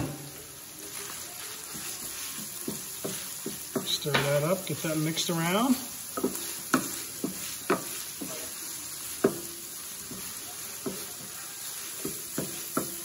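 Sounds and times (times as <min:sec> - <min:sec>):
meat sizzling on a griddle: 0:00.0 - 0:13.0
spatula knocking on griddle: 0:01.7 - 0:13.0.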